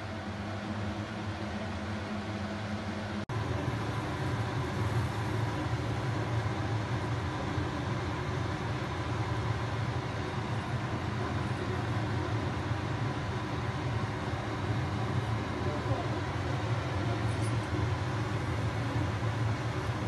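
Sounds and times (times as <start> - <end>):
gas burners rumbling and hissing: 0.0 - 20.0.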